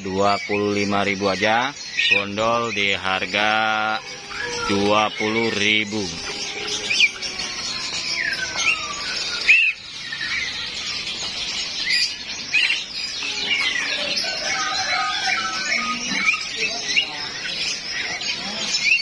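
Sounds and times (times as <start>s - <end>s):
songbirds chirping and twittering: 0.0s - 19.0s.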